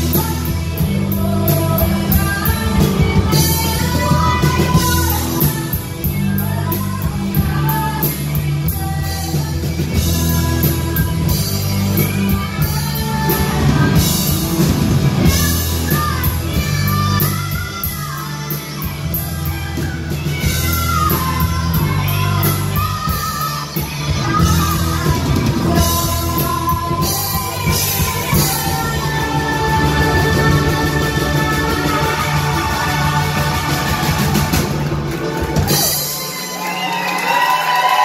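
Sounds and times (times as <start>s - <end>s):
person singing: 0.0s - 34.8s
drum beat with cymbals: 0.0s - 36.5s
live rock band: 0.0s - 38.0s.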